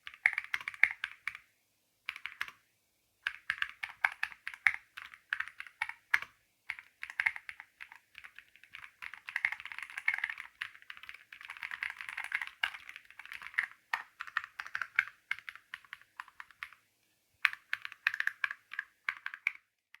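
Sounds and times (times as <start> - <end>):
mechanical keyboard typing: 0.0 - 1.4, 2.1 - 2.6, 3.2 - 16.8, 17.4 - 20.0.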